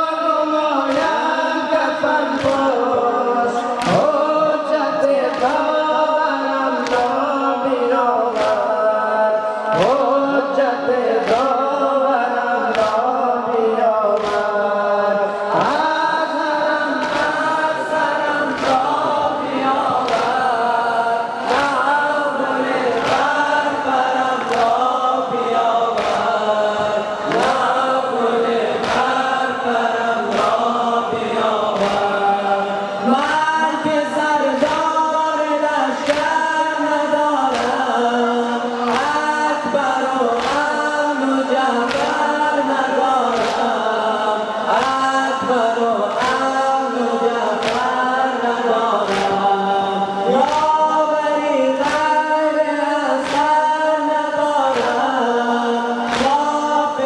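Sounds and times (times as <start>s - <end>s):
crowd beating chests in unison: 0.0s - 57.0s
men chanting a lament: 0.0s - 57.0s.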